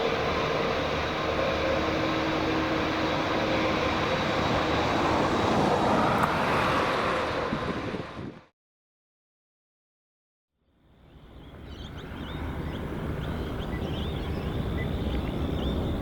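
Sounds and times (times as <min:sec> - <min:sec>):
jet engines roaring: 0:00.0 - 0:08.5, 0:11.3 - 0:16.0.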